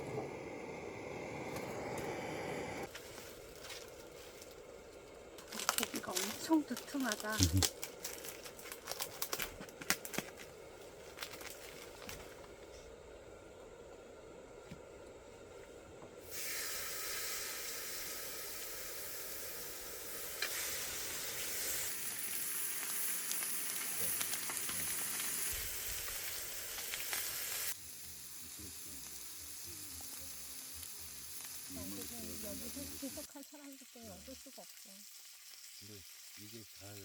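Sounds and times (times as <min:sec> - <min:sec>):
meat sizzling in a pan: 0:00.4 - 0:10.4, 0:16.2 - 0:37.0.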